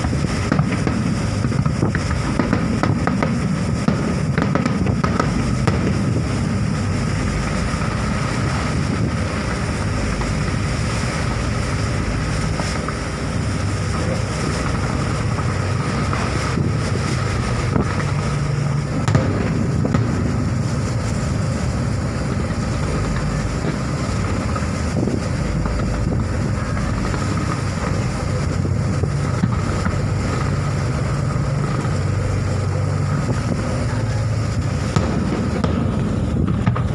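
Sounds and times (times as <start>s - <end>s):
continuous low rumble: 0.0s - 36.9s
fireworks booming and crackling: 0.0s - 36.9s
sharp firework bang: 0.0s - 36.9s.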